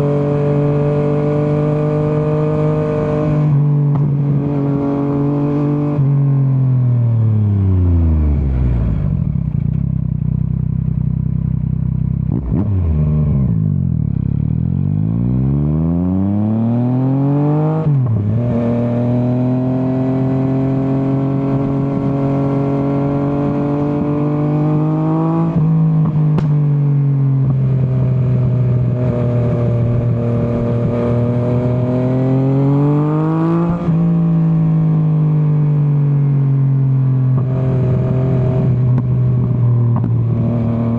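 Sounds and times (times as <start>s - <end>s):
motorcycle engine revving: 0.0s - 35.5s, 36.4s - 40.9s.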